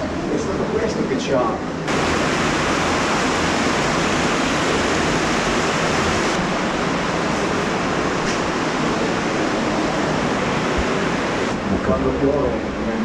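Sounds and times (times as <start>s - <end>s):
underground stream rushing: 0.0s - 13.0s.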